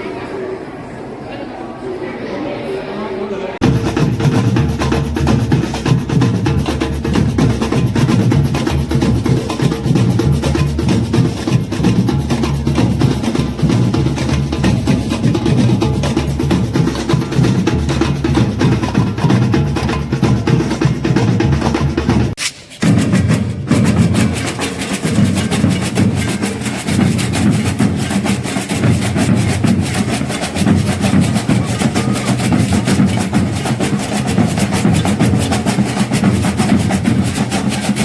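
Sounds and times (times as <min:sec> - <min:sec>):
percussion music with drums: 0:03.6 - 0:38.0.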